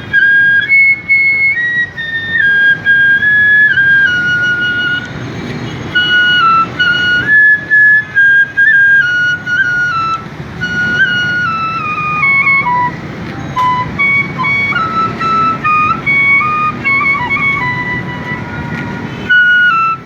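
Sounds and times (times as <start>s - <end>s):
bamboo flute melody: 0.0s - 20.0s.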